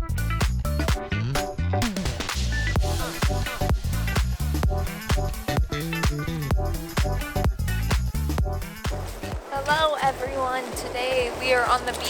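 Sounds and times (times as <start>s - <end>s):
electronic dance music: 0.0s - 11.9s.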